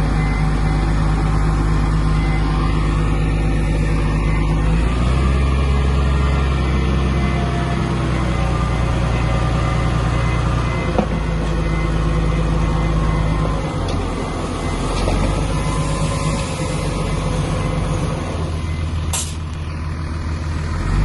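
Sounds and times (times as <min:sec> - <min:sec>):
heavy diesel engine under load: 0:00.0 - 0:21.0.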